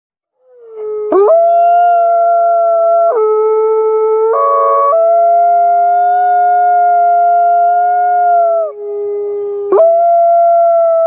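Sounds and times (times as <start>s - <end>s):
wolves howling in chorus: 0.4s - 11.0s.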